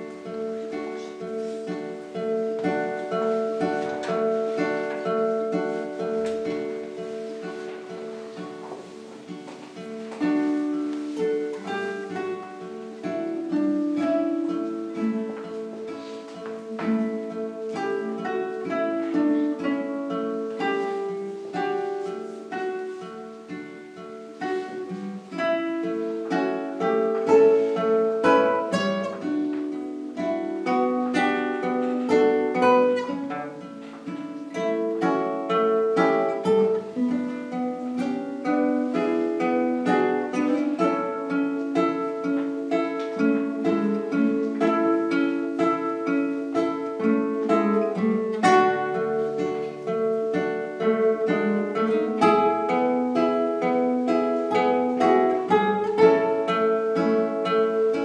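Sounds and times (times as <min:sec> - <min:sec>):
classical guitar duet: 0:00.0 - 0:58.0.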